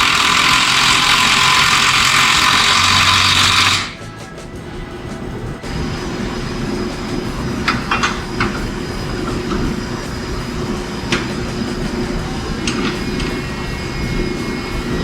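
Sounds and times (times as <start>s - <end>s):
mechanical running hum: 0.0s - 15.0s.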